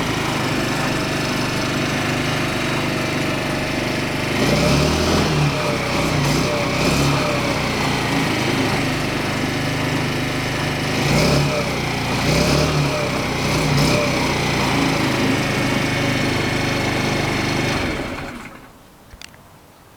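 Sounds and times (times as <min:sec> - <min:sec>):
scooter engine running: 0:00.0 - 0:18.7.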